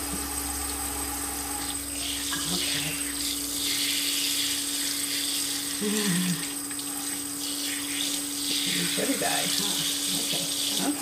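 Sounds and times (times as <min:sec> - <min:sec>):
water splashing into sink: 0:00.0 - 0:11.0.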